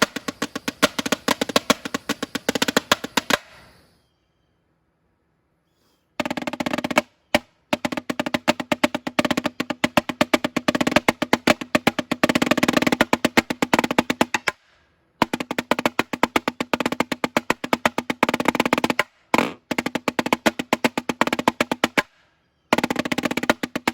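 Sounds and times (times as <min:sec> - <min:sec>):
snare drum rolls: 0:00.0 - 0:03.7, 0:06.2 - 0:22.1, 0:22.7 - 0:23.9.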